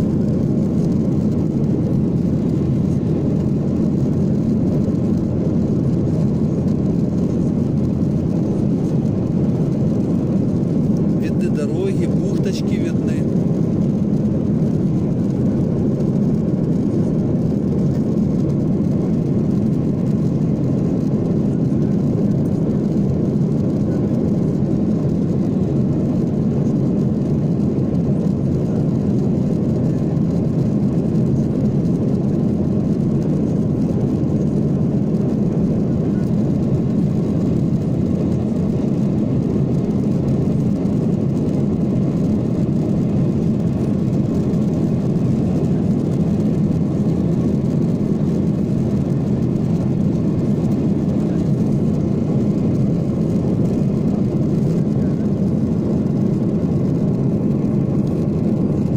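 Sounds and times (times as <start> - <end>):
jet airliner cabin noise: 0.0 - 58.9.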